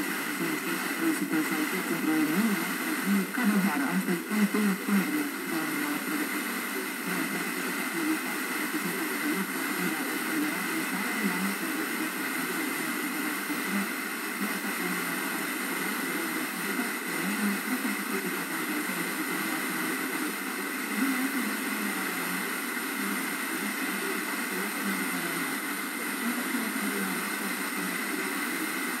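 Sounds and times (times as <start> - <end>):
faint radio programme audio: 0.0 - 29.0
radio static hiss: 0.0 - 29.0.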